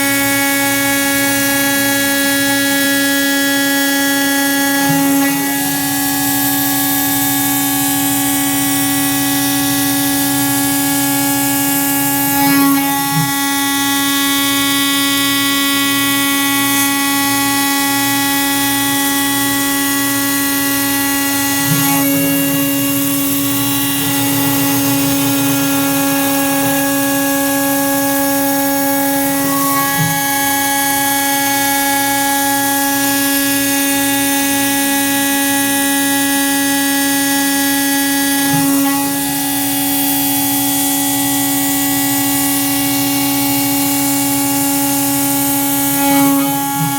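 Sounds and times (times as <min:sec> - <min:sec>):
machine tool cutting metal whine: 0:00.0 - 0:46.9.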